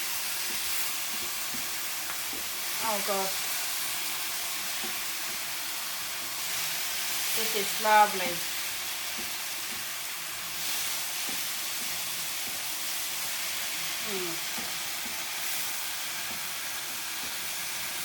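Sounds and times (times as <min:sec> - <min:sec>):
okra sizzling in a pan: 0:00.0 - 0:18.0.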